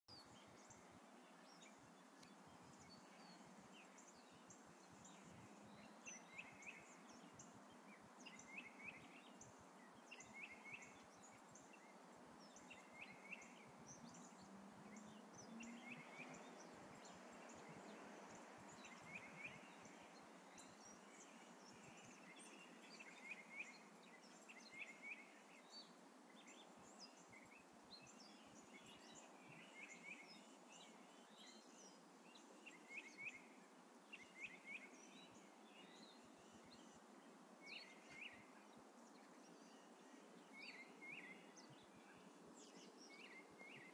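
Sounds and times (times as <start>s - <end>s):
steady outdoor hiss: 0.1s - 43.9s.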